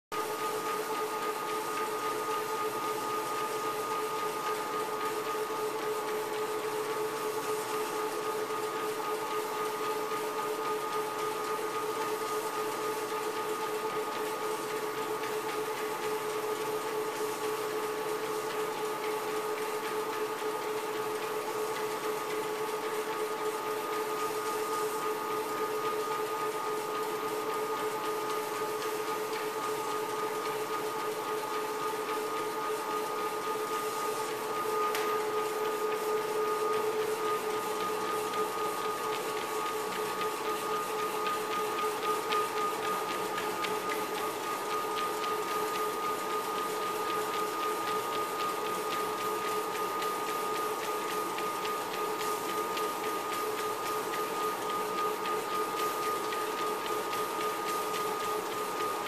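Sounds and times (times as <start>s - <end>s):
treadmill motor whine: 0.1s - 59.0s
dog paws on treadmill belt: 0.2s - 59.0s.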